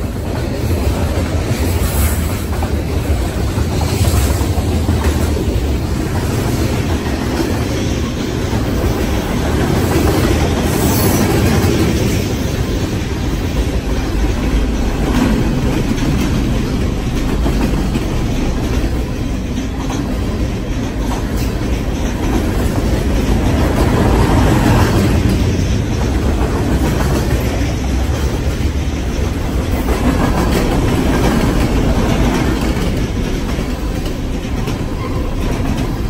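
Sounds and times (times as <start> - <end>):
freight train wheels rumbling: 0.0 - 36.0
wheels clacking over rail joints: 0.0 - 36.0.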